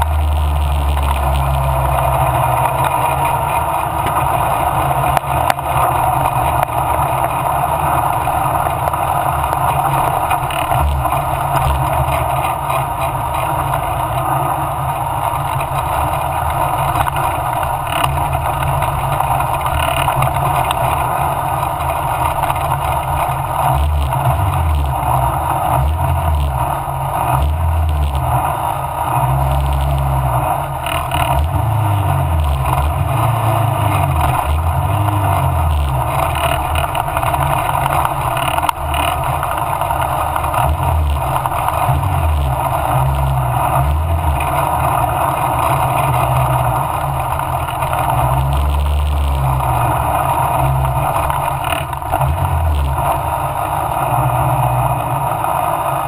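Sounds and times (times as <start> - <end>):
racing car engine running hard: 0.0 - 56.0.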